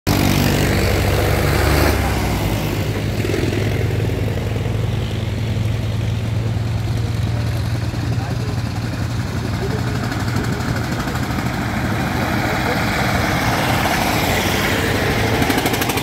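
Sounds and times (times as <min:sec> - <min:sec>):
tractor engine chugging: 0:00.1 - 0:16.0.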